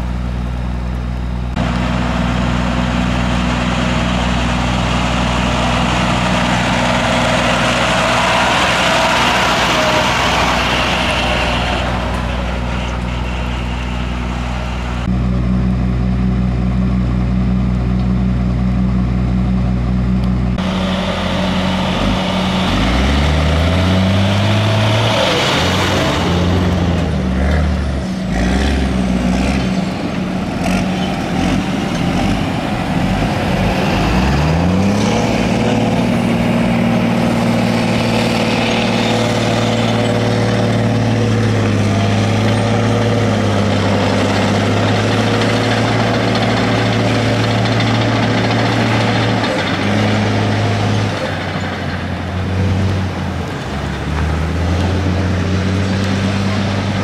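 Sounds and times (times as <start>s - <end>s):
road and wind noise: 0.0s - 57.0s
vehicle engine accelerating: 0.0s - 57.0s.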